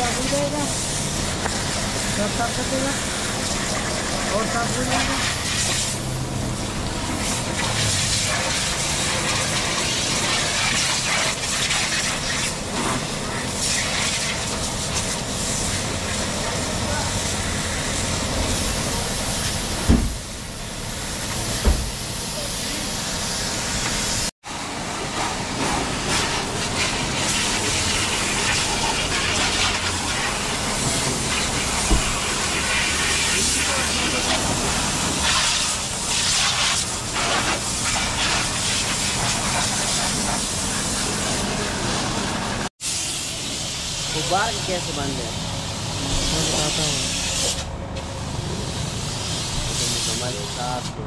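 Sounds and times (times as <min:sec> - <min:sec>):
hose water spraying onto car: 0:00.0 - 0:51.0.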